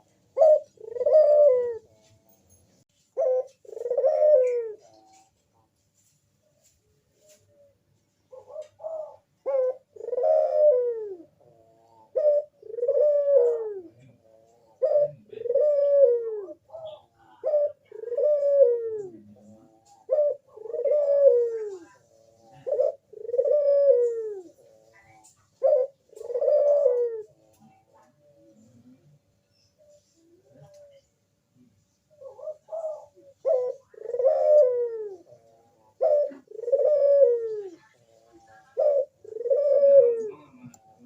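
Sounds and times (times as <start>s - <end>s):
dove cooing: 0.0s - 2.4s, 3.0s - 5.6s, 7.2s - 41.0s.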